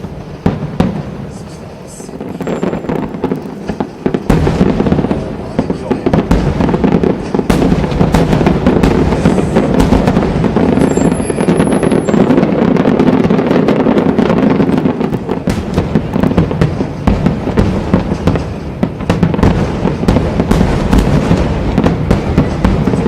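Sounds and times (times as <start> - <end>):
fireworks crackling: 0.0 - 23.0
fireworks exploding: 0.0 - 23.0.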